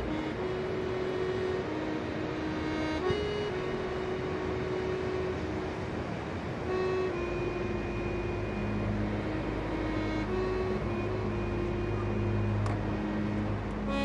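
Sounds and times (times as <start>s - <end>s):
slow held background music: 0.0s - 14.0s.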